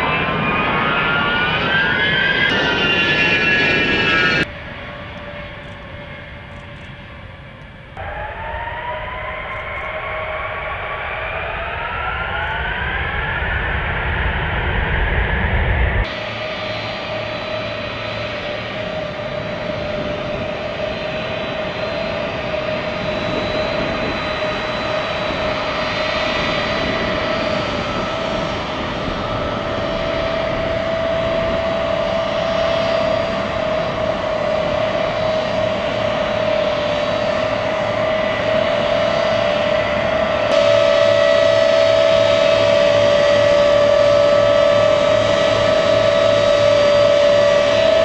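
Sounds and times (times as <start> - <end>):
jet engines whining while taxiing: 0.0 - 48.0.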